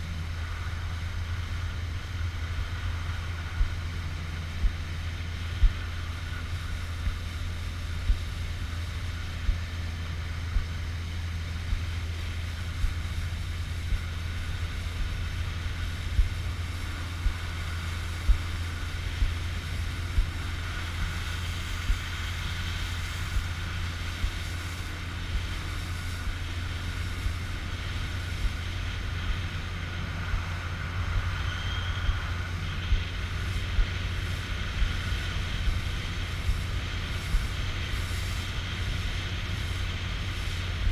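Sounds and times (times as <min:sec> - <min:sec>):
motorboat engine droning: 0:00.0 - 0:40.9.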